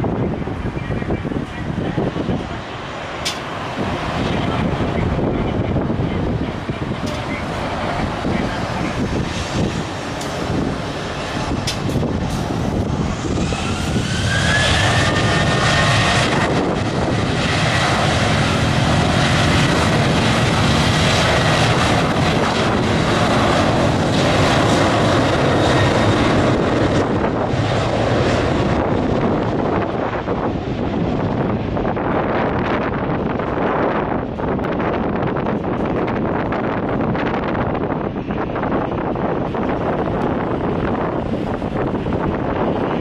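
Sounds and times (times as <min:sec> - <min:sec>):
loud jet noise: 0:00.0 - 0:43.0
jet engines spooling up: 0:01.3 - 0:43.0.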